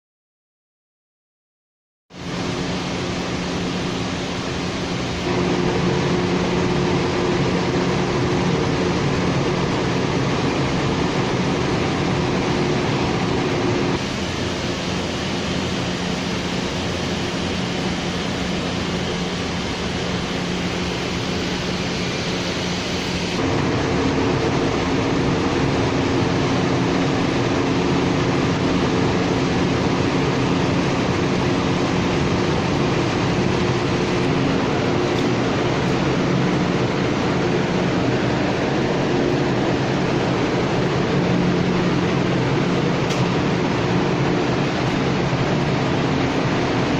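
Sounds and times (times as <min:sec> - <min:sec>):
machine humming: 0:02.2 - 0:46.9.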